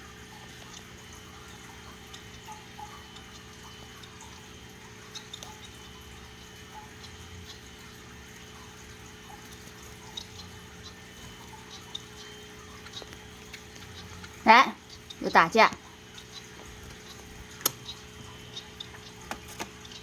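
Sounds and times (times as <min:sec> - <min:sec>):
sparrows chirping and clicking: 0:00.0 - 0:20.0
steady background hum: 0:00.0 - 0:20.0.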